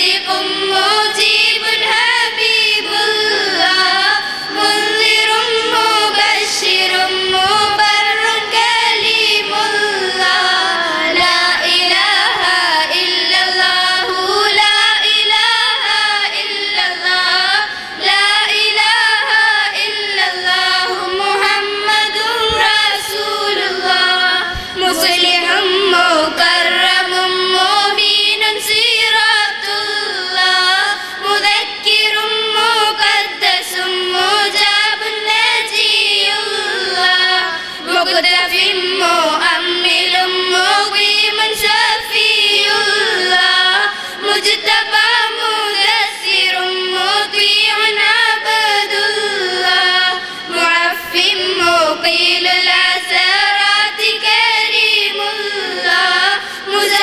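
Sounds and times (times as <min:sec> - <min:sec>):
girls singing in unison: 0:00.0 - 0:57.0.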